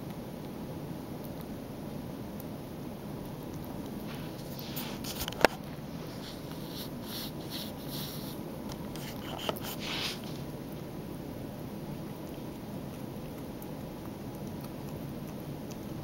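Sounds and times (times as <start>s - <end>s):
kitten chewing meat: 0.0s - 16.0s.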